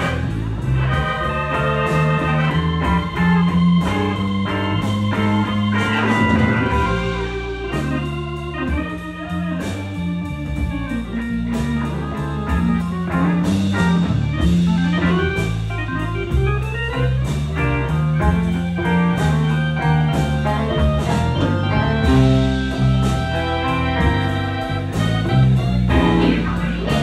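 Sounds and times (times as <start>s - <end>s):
drum kit steady beat: 0.0s - 27.0s
electric bass: 0.0s - 27.0s
electric guitar lead: 0.0s - 27.0s.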